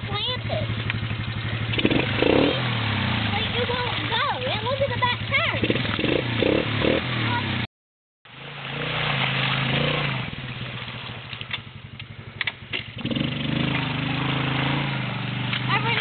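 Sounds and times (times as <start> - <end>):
quad engine idling: 0.0 - 7.7, 8.4 - 16.0.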